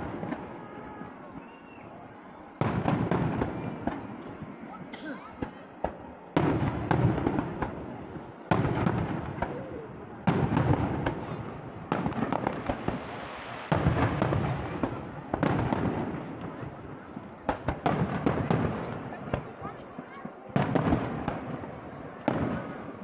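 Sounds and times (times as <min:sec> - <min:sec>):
firework pops and crackles: 0:00.0 - 0:02.0, 0:02.6 - 0:23.0.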